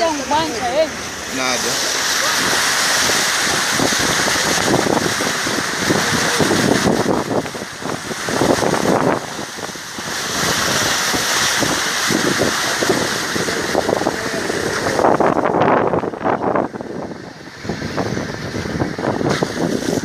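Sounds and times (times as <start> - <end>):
vehicle rumbling on dirt road: 0.0 - 20.0
wind buffeting microphone: 0.0 - 20.0.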